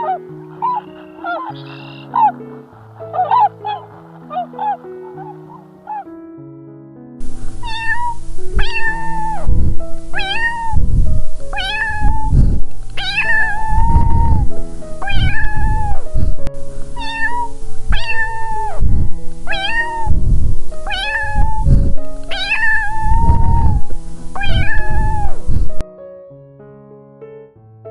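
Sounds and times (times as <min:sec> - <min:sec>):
cat meowing: 0:00.0 - 0:06.1, 0:07.2 - 0:25.8
piano music: 0:00.0 - 0:27.9.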